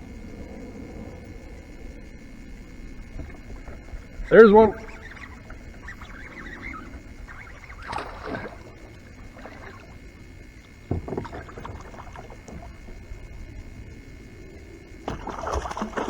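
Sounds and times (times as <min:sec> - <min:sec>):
water swishes: 0:00.0 - 0:16.0.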